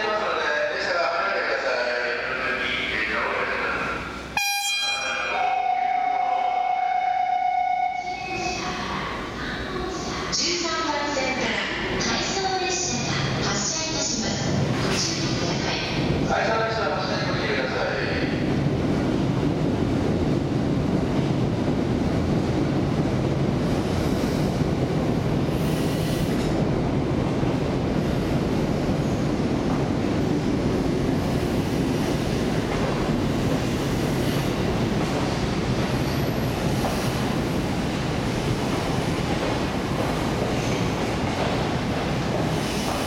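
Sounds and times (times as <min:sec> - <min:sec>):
train coaches rumbling on rails: 0:00.0 - 0:43.0.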